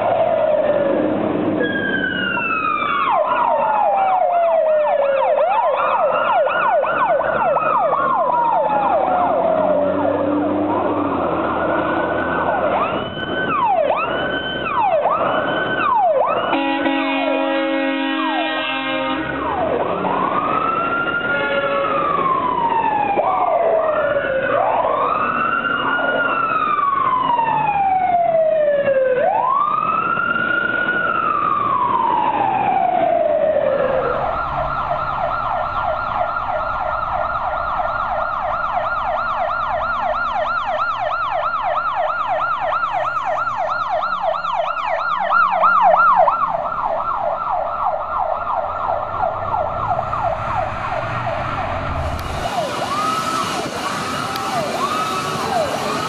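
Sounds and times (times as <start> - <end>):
fire engine sirens: 0.0 - 56.0.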